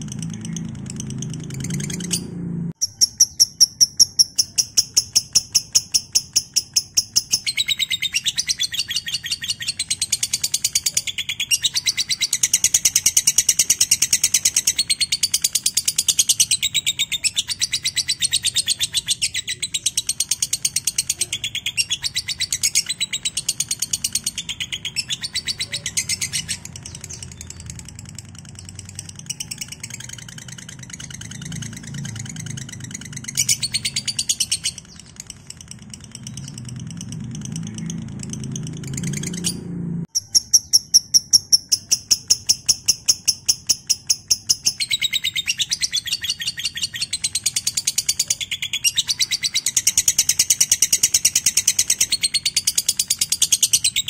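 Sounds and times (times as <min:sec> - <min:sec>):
bird trilling chattering chirps: 0:00.0 - 0:54.0.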